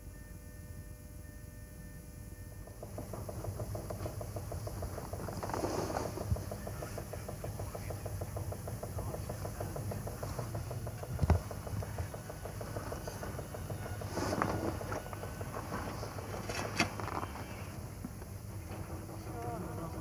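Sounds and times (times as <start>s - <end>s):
rapid mechanical ticking of train: 2.6s - 20.0s.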